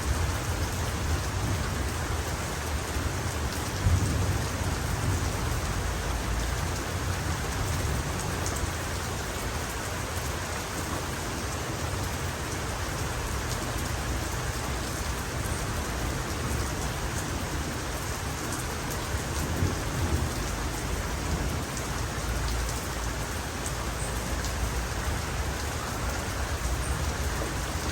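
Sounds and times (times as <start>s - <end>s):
heavy rain falling: 0.0s - 27.9s.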